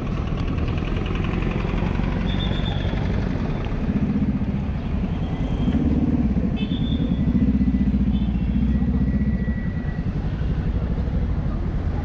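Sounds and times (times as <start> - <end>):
car and motorcycle engines passing: 0.0 - 12.0.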